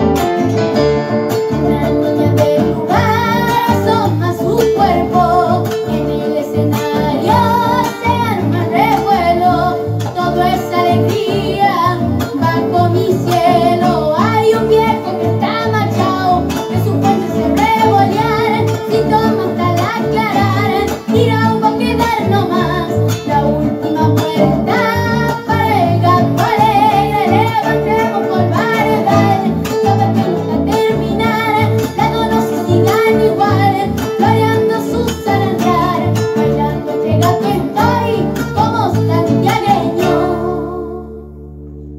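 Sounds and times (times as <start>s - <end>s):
strummed acoustic guitar: 0.0s - 41.9s
boy singing folk song: 1.5s - 41.4s.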